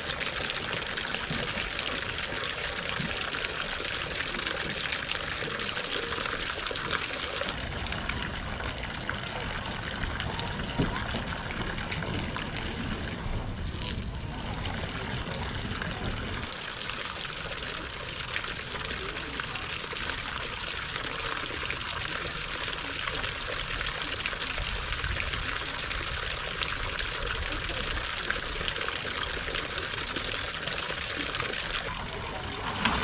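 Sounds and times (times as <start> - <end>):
water splashing into tank: 0.0 - 33.0.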